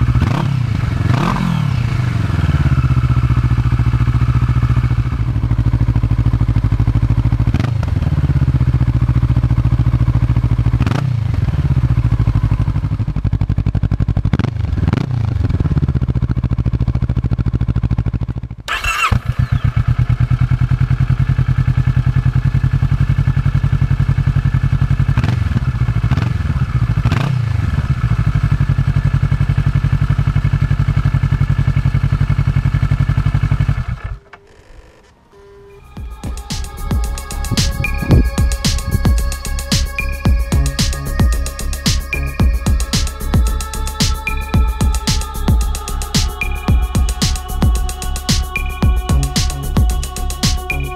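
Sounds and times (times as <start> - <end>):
motorcycle engine idling and revving: 0.0 - 35.0, 35.7 - 50.9.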